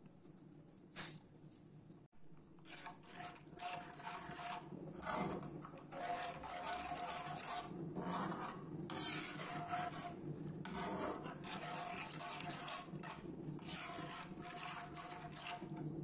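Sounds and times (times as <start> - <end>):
metal spatula scraping a pan: 2.6 - 16.0.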